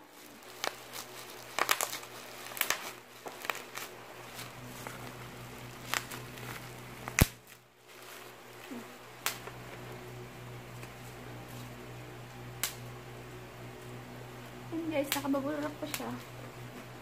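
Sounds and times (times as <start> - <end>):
bubble wrap crinkling and clicking: 0.0 - 17.0.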